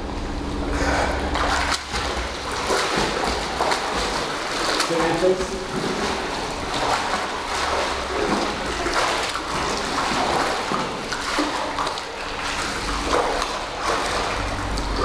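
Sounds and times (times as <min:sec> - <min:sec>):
pool water splashing: 0:00.6 - 0:15.0.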